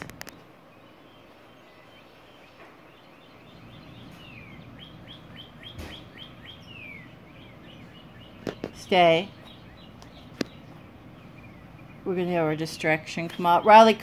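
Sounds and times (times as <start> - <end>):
bird chirping faintly: 0.1 - 13.1.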